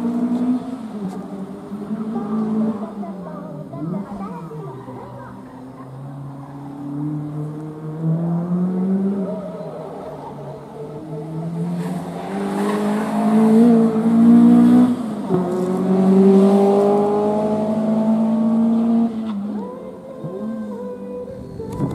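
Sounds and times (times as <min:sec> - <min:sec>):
car engine revving past: 0:00.0 - 0:19.7.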